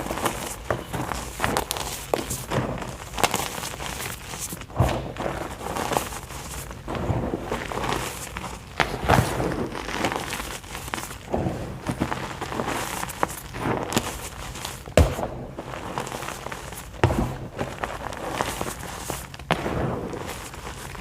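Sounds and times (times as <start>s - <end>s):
chalk crunching and crumbling: 0.0s - 21.0s.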